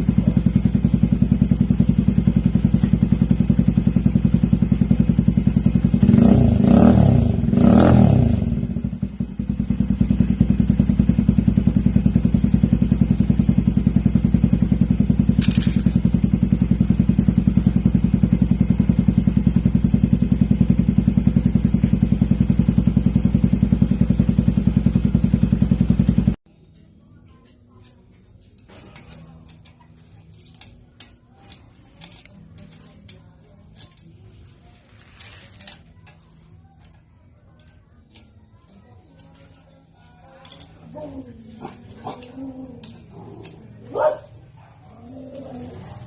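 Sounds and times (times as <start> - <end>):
motorcycle engine idling and revving: 0.0 - 26.9, 27.9 - 46.0.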